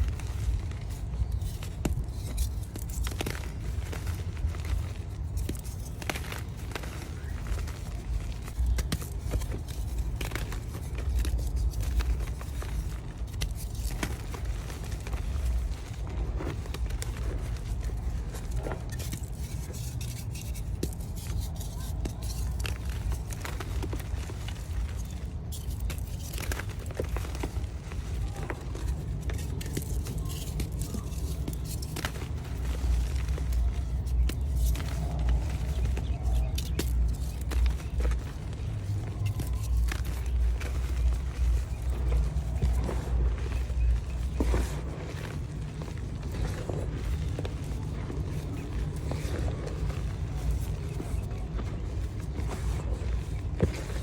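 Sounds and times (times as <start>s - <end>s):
chalk crunching: 0.0s - 54.0s
low handling rumble: 0.0s - 54.0s.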